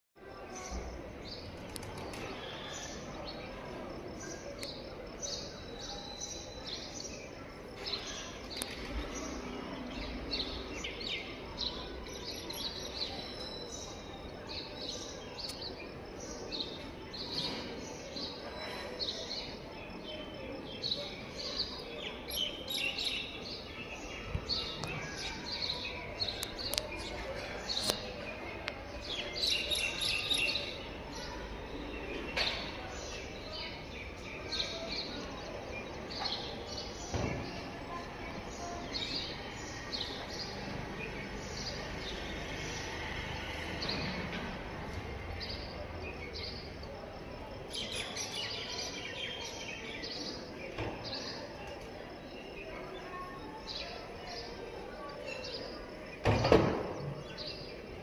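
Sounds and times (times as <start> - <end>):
outdoor background hiss: 0.2 - 58.0
small birds chirping: 0.3 - 58.0.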